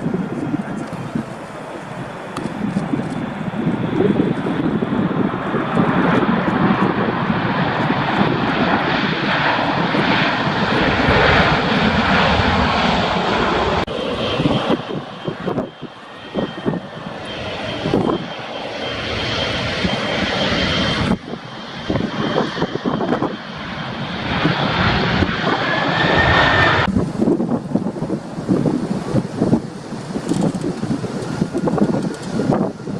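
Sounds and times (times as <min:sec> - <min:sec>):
jet airliner engines overhead: 0:00.0 - 0:32.9
wind buffeting microphone: 0:00.0 - 0:32.9.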